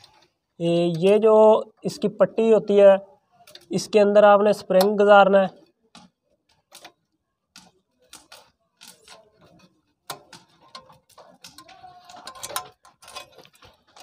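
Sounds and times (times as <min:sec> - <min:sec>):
coil spring clicking and scraping: 0:00.0 - 0:01.3, 0:03.3 - 0:14.0.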